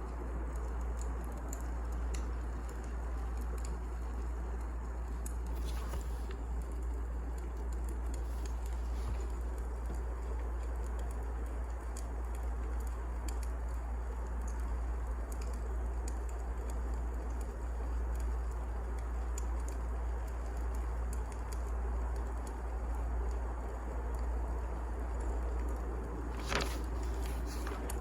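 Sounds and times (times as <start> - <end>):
firewood crackling: 0.0 - 28.0.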